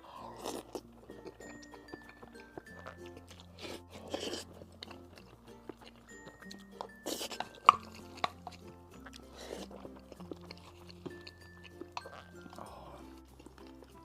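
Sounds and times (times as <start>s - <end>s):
person chewing: 0.0s - 14.0s
soft background music: 0.0s - 14.0s.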